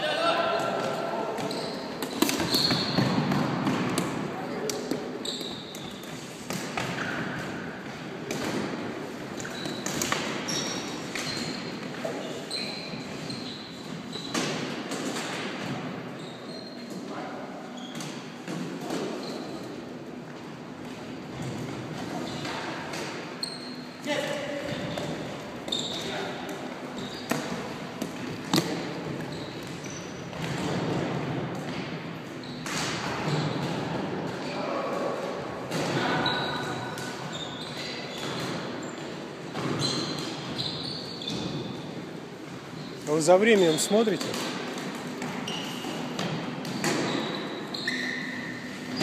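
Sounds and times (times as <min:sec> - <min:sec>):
sneakers squeaking on gym floor: 0:00.1 - 0:19.9, 0:21.1 - 0:34.9, 0:35.7 - 0:49.0.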